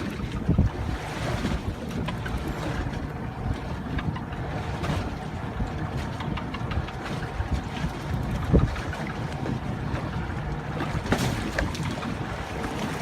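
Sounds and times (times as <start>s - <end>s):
water washing against hull: 0.0s - 13.0s
wind buffeting microphone: 0.0s - 13.0s.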